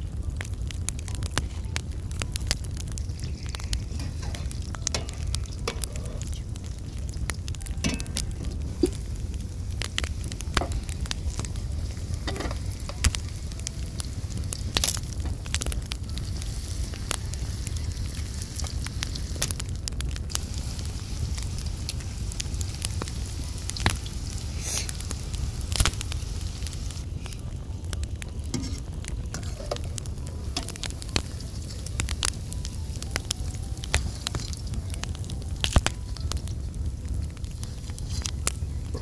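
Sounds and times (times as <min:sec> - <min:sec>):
fries sizzling in hot oil: 0:00.0 - 0:39.0.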